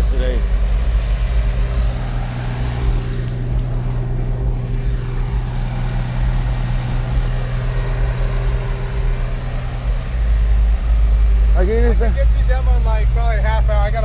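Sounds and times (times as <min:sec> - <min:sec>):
low mechanical drone: 0:00.0 - 0:14.0
thin high whine: 0:00.0 - 0:14.0.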